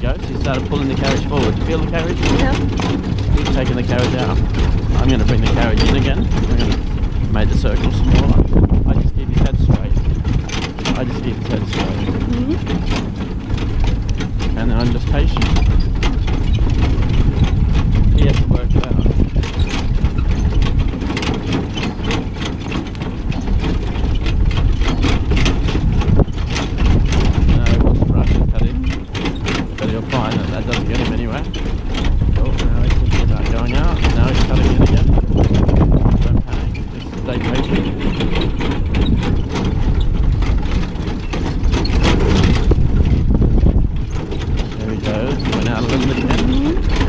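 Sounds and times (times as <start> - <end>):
carriage rattles and clicks: 0.0 - 47.0
carriage wheels rumbling: 0.0 - 47.0
trotting hoofbeats: 0.0 - 47.0
wind on microphone: 0.0 - 47.0.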